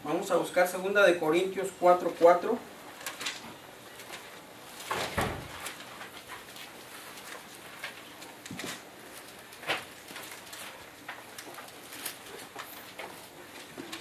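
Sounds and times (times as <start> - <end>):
pages rustling: 2.1 - 14.0.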